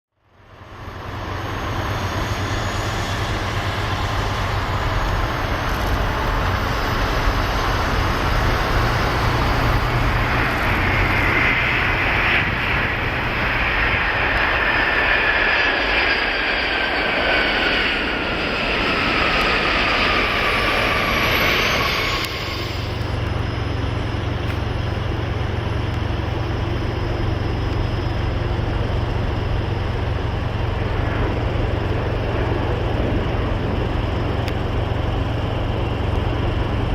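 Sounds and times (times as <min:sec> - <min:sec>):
jet engine whine: 0:00.1 - 0:36.9
jet engines rushing: 0:00.2 - 0:36.9
low rumble: 0:00.6 - 0:36.9.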